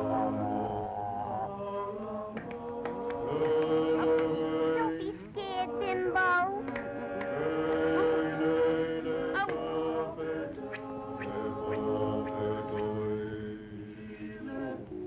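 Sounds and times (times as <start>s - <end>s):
chorus chanting held notes: 0.0s - 15.0s.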